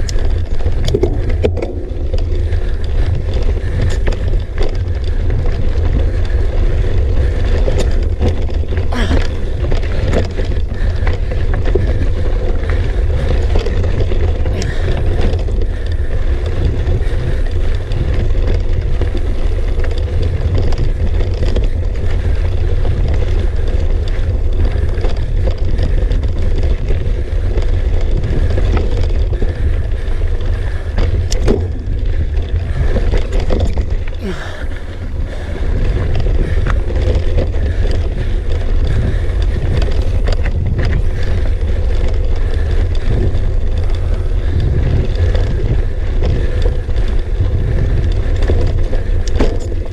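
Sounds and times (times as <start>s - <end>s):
bike clicks and knocks: 0.0s - 49.9s
wind rumble on microphone: 0.0s - 49.9s.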